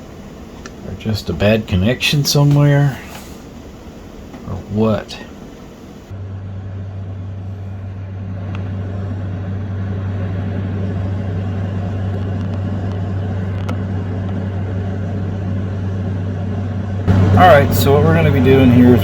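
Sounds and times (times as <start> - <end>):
fan motor humming: 0.0 - 19.0.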